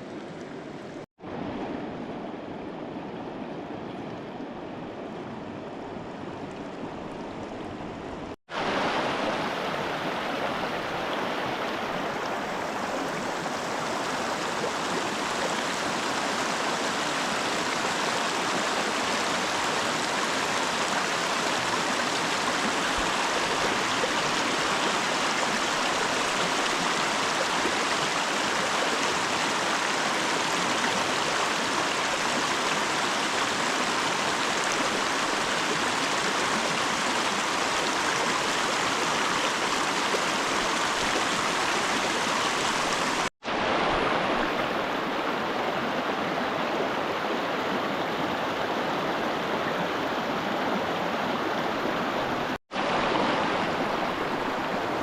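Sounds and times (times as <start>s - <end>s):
river water rushing: 5.8s - 55.0s.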